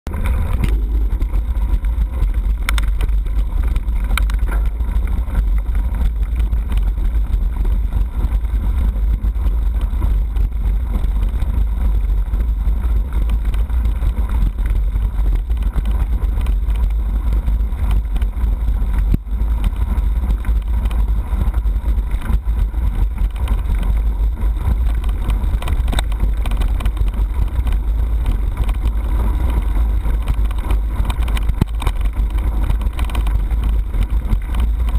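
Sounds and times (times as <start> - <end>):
bike tyres rolling on gravel: 0.1 - 34.9
wind buffeting microphone: 0.1 - 34.9.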